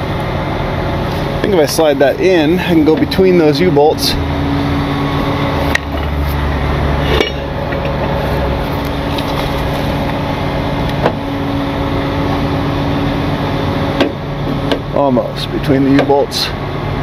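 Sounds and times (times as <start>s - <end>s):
engine and hydraulic pump hum: 0.0s - 17.0s.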